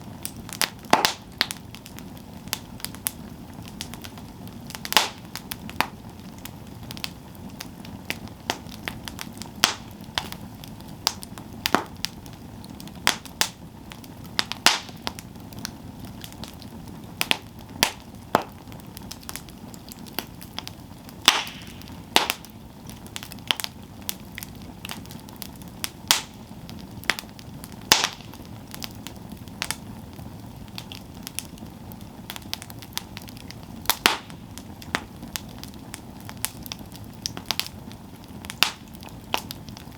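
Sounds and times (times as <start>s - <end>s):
burning wood crackling: 0.0s - 39.9s
campfire flame rush: 0.0s - 39.9s.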